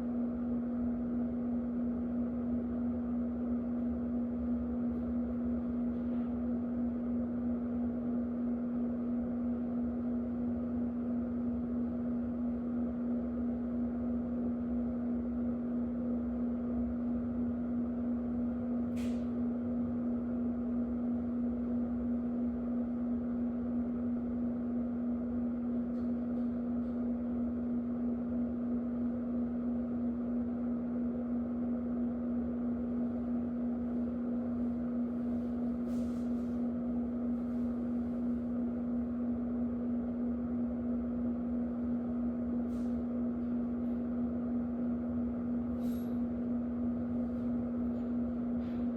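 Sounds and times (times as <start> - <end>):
electric fan humming: 0.0 - 48.9.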